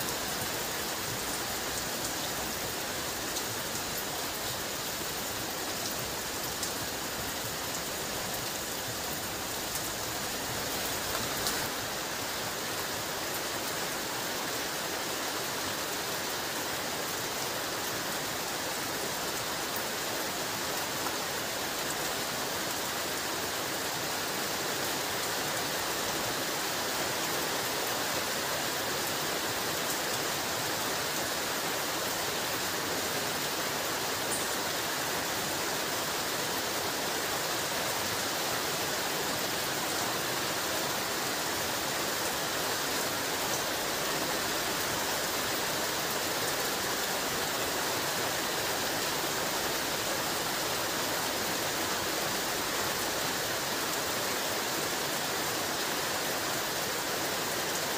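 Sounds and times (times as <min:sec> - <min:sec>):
heavy rain hissing: 0:00.0 - 0:57.9.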